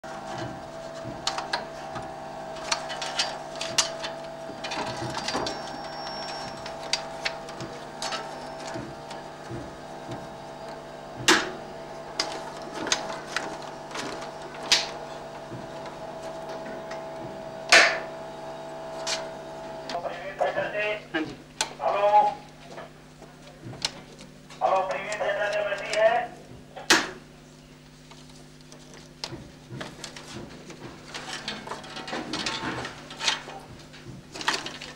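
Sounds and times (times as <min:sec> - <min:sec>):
machinery hum with whine: 0:00.0 - 0:34.9.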